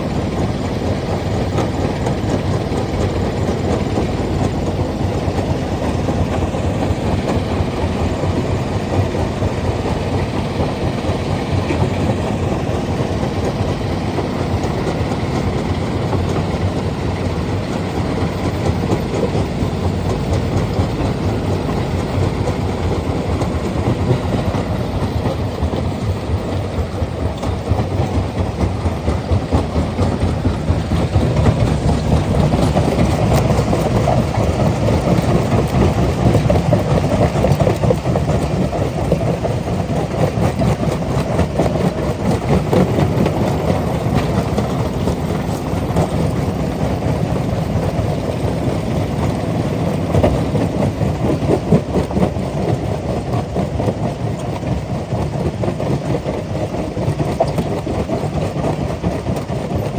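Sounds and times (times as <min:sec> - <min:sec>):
rock crusher rumbling: 0:00.0 - 0:52.7.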